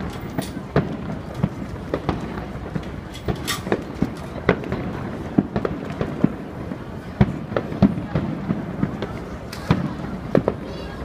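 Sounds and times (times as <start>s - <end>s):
continuous rumble: 0.0s - 11.0s
firework bangs and pops: 0.0s - 11.0s.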